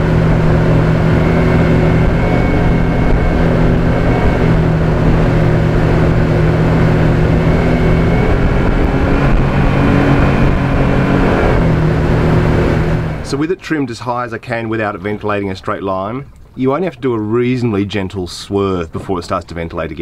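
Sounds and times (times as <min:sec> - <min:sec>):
outboard engine running: 0:00.0 - 0:20.0.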